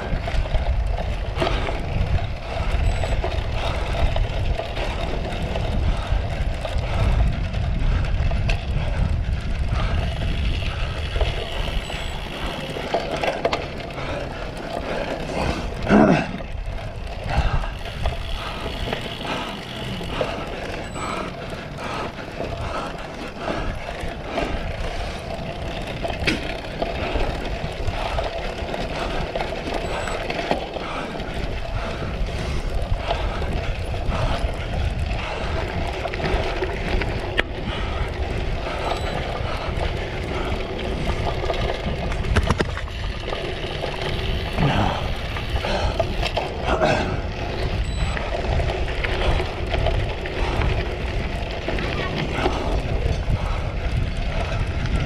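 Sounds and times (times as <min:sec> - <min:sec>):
bike rattling over bumps: 0:00.0 - 0:55.0
wind rumble on microphone: 0:00.0 - 0:55.0.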